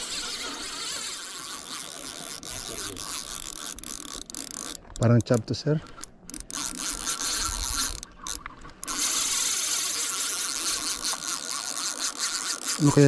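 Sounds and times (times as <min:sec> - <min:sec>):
fishing reel ratcheting: 0:00.0 - 0:13.0.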